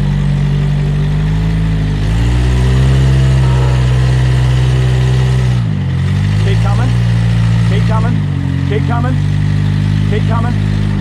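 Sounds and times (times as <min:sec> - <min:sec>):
engine running under load: 0:00.0 - 0:11.0.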